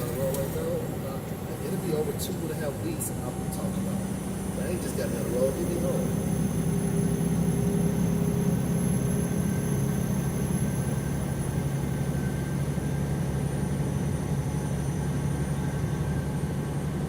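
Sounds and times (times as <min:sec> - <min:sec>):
truck engine drone from inside cab: 0:00.0 - 0:17.0.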